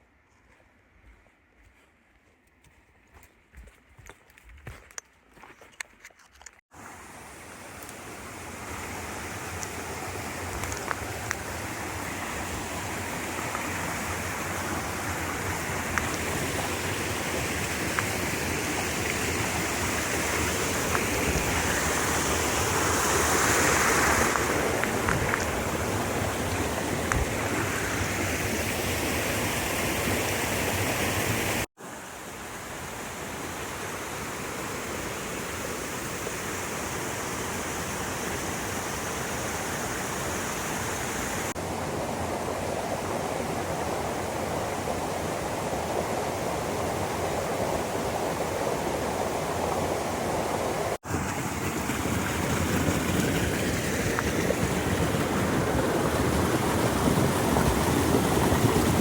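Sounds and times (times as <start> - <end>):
stream water rushing: 4.7 - 59.0.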